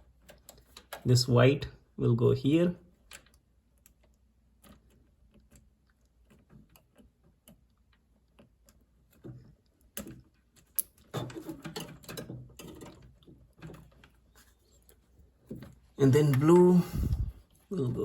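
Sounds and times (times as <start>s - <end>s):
wire connectors clicking and rattling: 0.0s - 1.2s, 2.9s - 18.0s.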